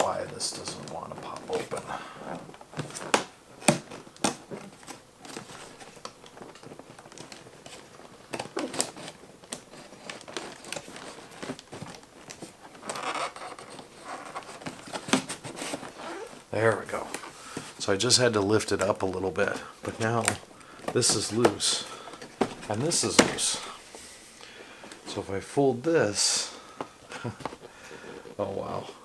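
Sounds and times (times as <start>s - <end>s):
cardboard crinkling and rustling: 0.0s - 29.0s.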